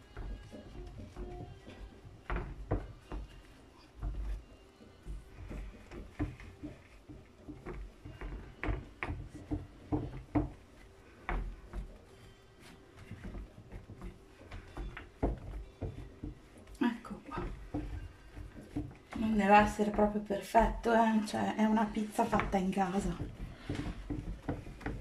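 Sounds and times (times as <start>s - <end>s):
hands pressing dough on tray: 0.0s - 25.0s.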